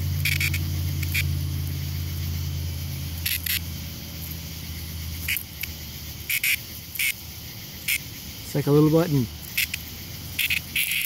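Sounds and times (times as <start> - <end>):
cicada buzzing squawks: 0.0 - 11.0
faint cicada chorus: 0.0 - 11.0.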